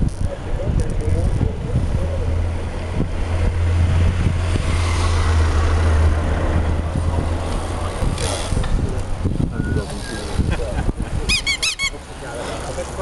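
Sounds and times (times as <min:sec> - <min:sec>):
car engine rumble: 0:00.0 - 0:11.3.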